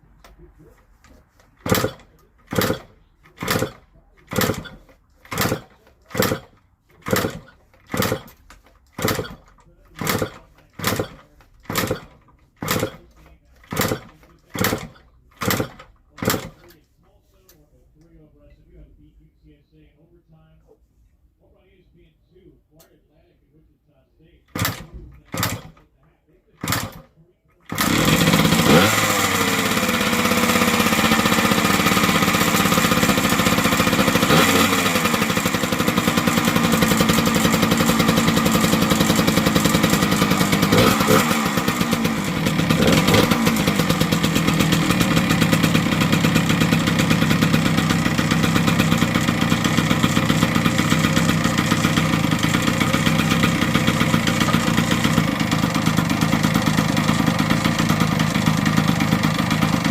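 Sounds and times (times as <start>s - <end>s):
two-stroke engine revving and idling: 0.0s - 16.8s, 24.5s - 25.9s, 26.5s - 59.9s.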